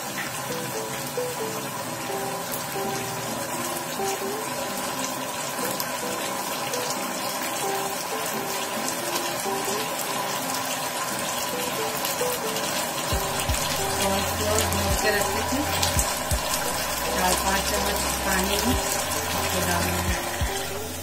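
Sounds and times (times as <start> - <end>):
background music melody: 0.0 - 21.0
sauce sizzling in a frying pan: 0.0 - 21.0.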